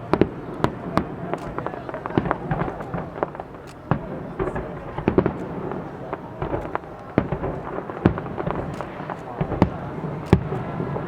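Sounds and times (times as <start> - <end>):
fireworks bangs and pops: 0.0 - 11.0
fireworks crackle and rumble: 0.0 - 11.0.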